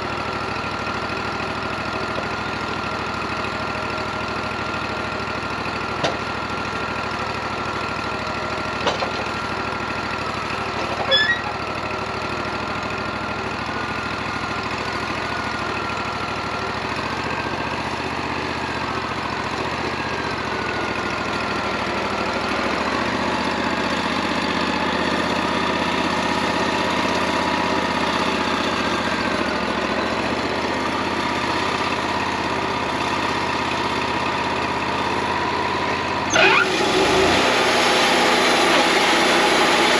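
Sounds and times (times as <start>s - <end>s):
bandsaw sawmill running: 0.0s - 39.9s.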